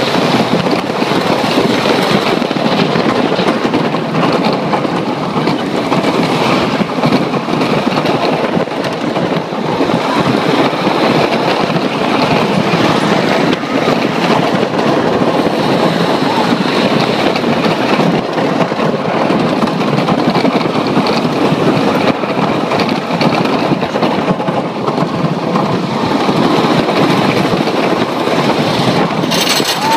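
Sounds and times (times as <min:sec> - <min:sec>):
roller coaster wheels rumbling on track: 0:00.0 - 0:29.9.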